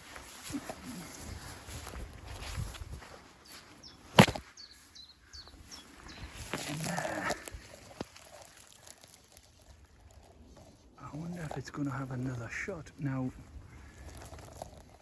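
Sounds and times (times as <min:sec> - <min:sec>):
sharp crack in undergrowth: 0:00.0 - 0:04.9, 0:05.7 - 0:15.0
light rustling in undergrowth: 0:00.0 - 0:15.0.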